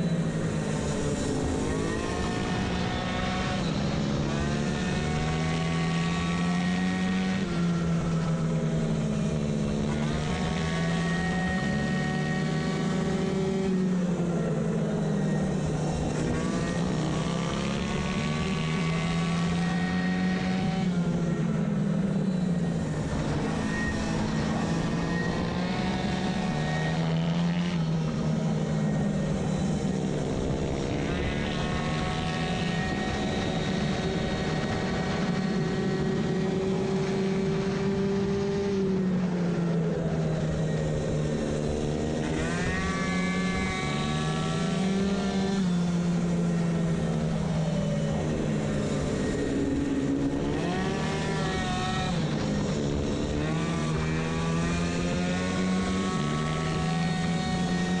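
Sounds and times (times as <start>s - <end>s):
moped engine at high revs: 0.0s - 58.0s.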